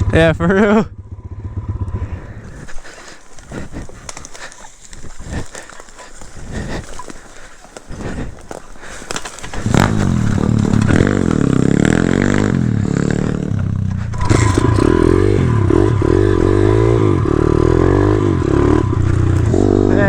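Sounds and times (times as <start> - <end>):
small motorbike engine revving: 1.0 - 20.0.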